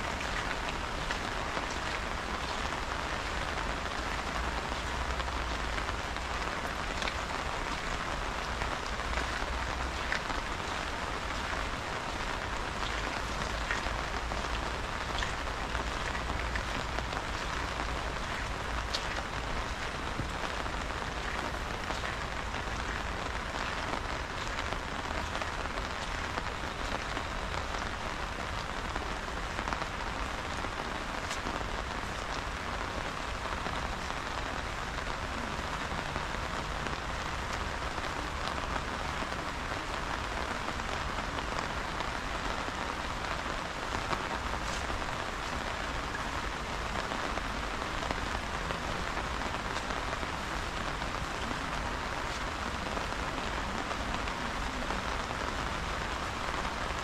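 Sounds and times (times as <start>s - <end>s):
raindrop hits: 0.0s - 57.0s
steady rain hissing: 0.0s - 57.0s.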